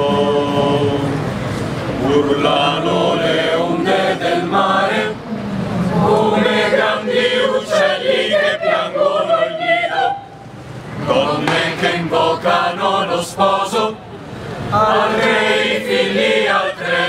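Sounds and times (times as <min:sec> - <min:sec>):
chorus chanting in unison: 0:00.0 - 0:01.3, 0:02.0 - 0:05.3, 0:05.9 - 0:10.2, 0:11.0 - 0:14.0, 0:14.7 - 0:17.0.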